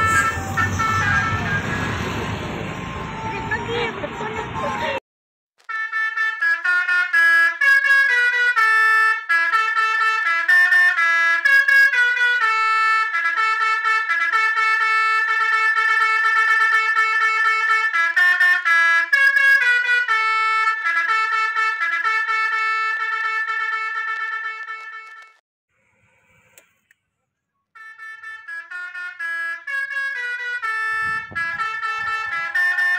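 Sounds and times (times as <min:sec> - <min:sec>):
trumpet-like horn playing a tune: 0:00.0 - 0:02.3, 0:05.6 - 0:25.4, 0:27.8 - 0:32.9.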